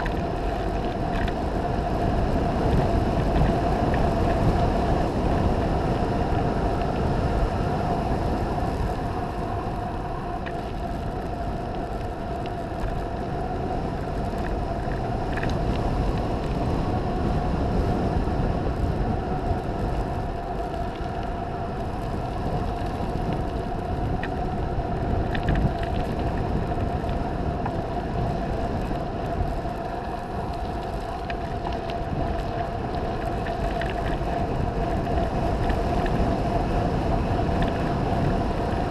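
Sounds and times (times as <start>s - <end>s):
steady hum: 0.0s - 38.9s
wind rushing over microphone: 0.0s - 38.9s.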